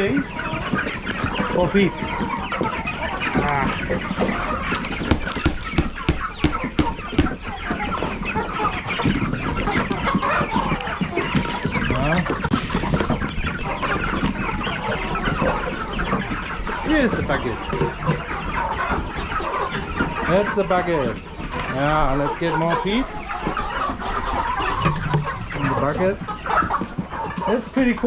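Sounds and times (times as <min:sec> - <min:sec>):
flock of chickens clucking: 0:00.0 - 0:28.0.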